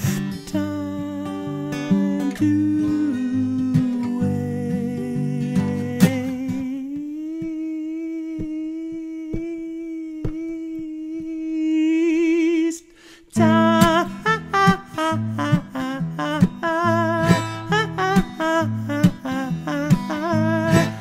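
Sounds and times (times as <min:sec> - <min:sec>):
acoustic guitar strumming: 0:00.0 - 0:11.3, 0:13.3 - 0:21.0.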